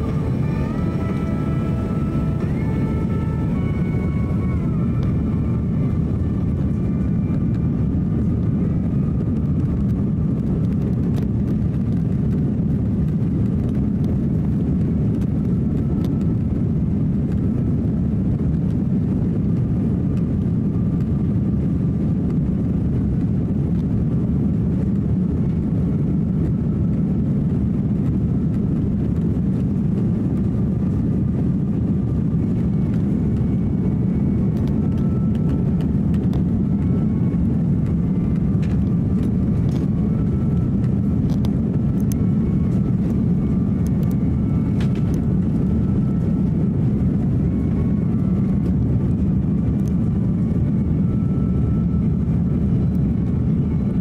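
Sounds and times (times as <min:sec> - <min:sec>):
faint engine whine: 0:00.0 - 0:54.0
low rumble of jet engines: 0:00.0 - 0:54.0.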